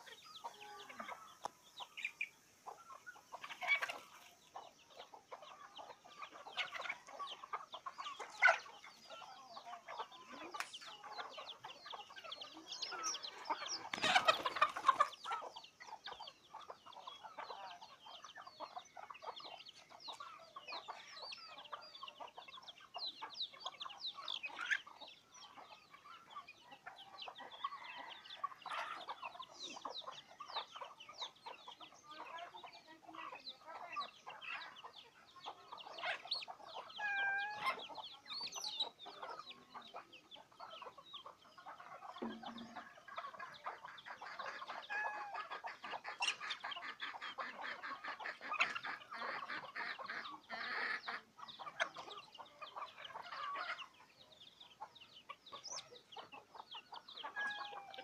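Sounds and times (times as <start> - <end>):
chicken calls: 0.0 - 58.0
chickens clucking: 0.0 - 58.0.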